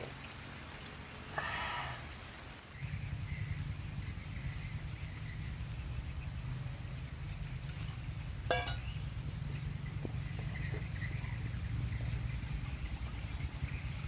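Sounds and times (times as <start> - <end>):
wind and rain rumble: 0.0 - 14.0.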